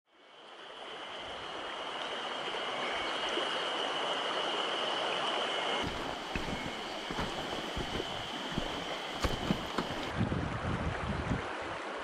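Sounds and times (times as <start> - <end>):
stream water rushing: 0.2 - 10.2.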